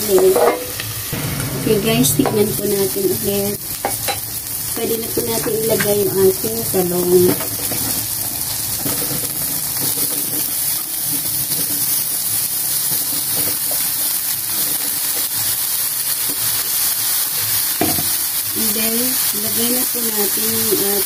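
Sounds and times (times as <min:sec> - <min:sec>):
hot oil sizzling in a wok: 0:00.0 - 0:21.0.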